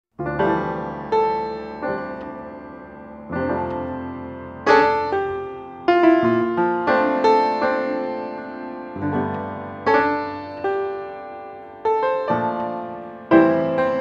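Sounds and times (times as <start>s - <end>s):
slow piano chords: 0.1s - 14.0s.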